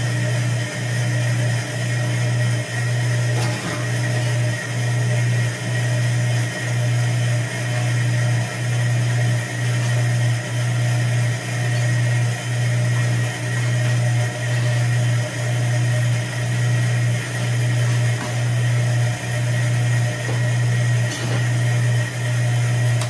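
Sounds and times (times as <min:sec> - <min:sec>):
machine low electric hum: 0:00.0 - 0:23.0.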